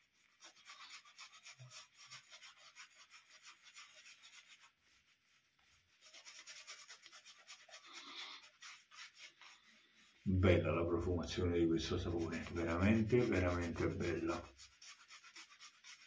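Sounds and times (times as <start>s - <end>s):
shaving brush scrubbing soap: 0.0s - 16.0s.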